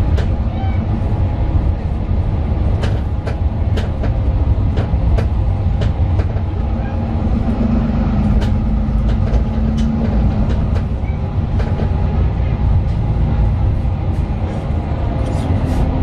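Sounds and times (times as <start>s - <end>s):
bus diesel engine rumble: 0.0s - 16.0s.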